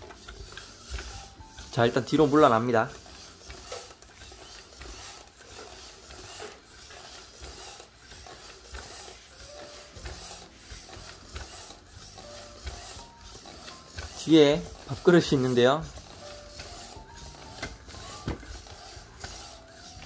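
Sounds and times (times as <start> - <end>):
robot servo motors whirring: 0.0 - 20.0.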